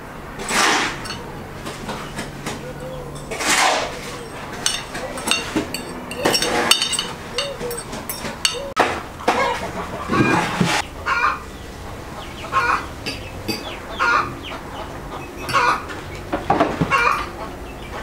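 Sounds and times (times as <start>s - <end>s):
chickens clucking: 0.4s - 18.0s.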